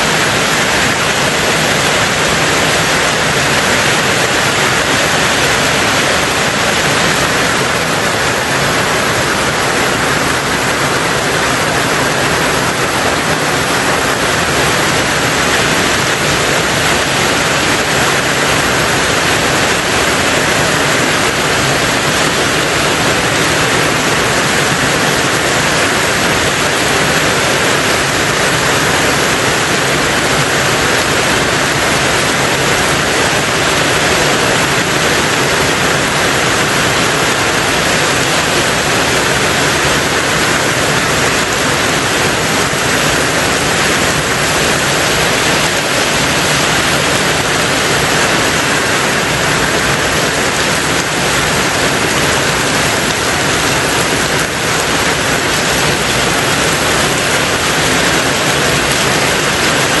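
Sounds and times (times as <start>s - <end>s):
heavy rain on a tin roof: 0.0s - 60.0s.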